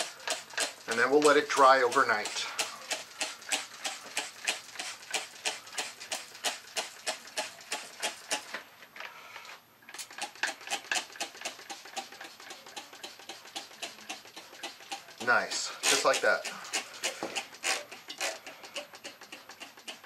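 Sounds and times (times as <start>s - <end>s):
spray bottle clicking and spritzing: 0.0s - 8.5s, 9.9s - 20.0s.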